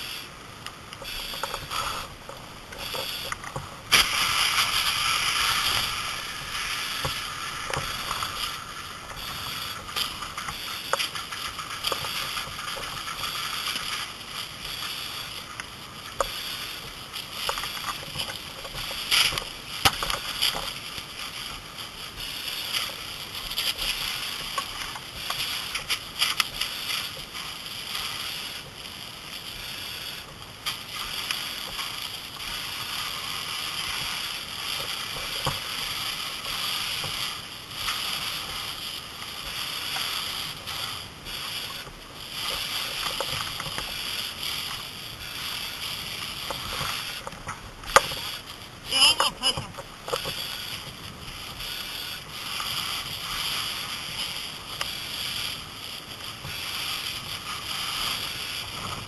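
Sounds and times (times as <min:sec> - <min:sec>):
water and steam hissing: 0:00.0 - 0:59.0
sharp cracks and pops: 0:00.6 - 0:59.0.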